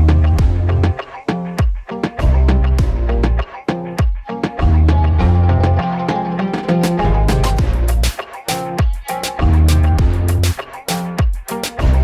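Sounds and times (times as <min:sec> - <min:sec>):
band music with drum beat: 0:00.0 - 0:12.0.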